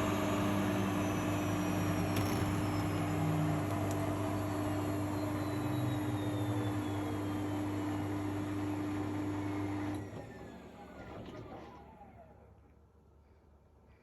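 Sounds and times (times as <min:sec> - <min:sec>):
washing machine drum whine: 0:00.0 - 0:12.2
washing machine motor hum: 0:00.0 - 0:12.6.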